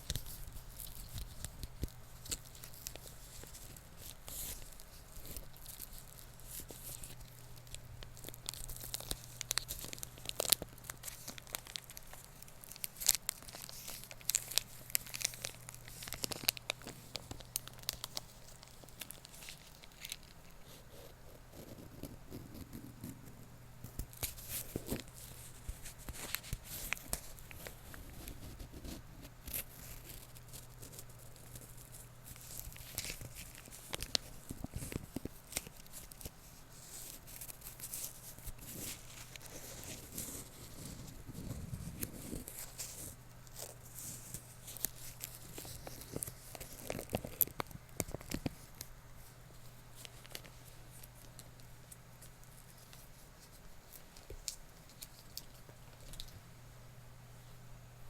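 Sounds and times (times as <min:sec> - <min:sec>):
scratching and crinkling handling: 0:00.0 - 0:57.6
faint low hum: 0:00.0 - 0:58.0.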